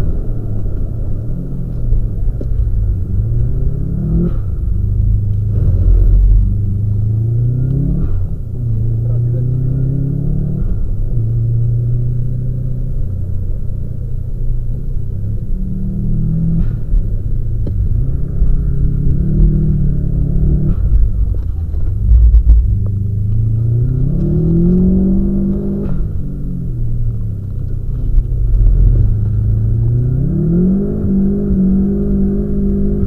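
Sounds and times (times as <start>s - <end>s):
car engine revving: 0.0s - 33.0s
heavy low rumble: 0.0s - 33.0s.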